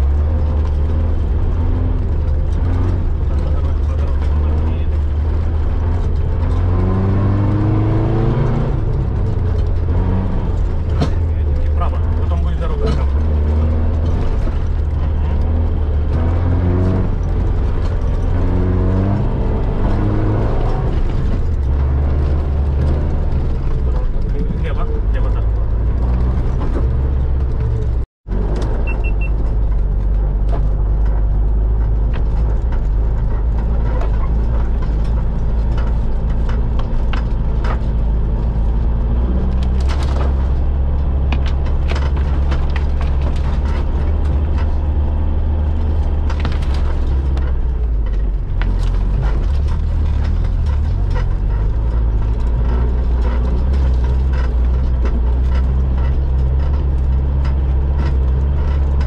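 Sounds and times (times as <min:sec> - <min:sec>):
body and suspension rattling: 0:00.0 - 0:59.0
car engine running: 0:00.0 - 0:59.0.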